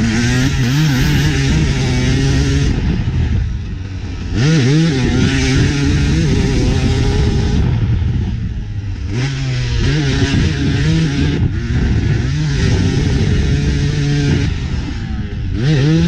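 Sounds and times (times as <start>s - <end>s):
motocross engine revving: 0.0s - 16.0s.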